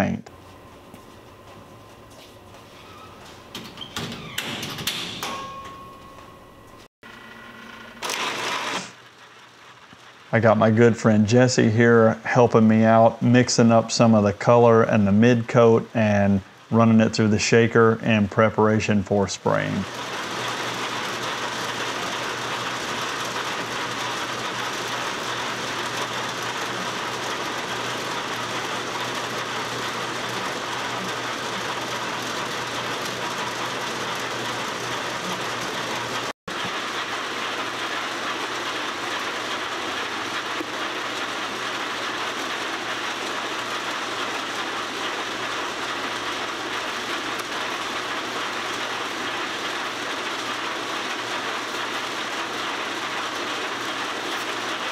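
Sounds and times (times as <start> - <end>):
paint mixing machinery running: 6.2 - 54.9.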